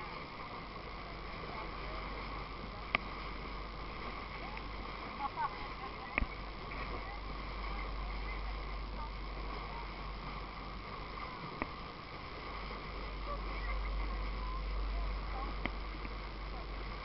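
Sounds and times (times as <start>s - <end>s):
low hum: 0.0s - 17.0s
water around boat: 0.0s - 17.0s.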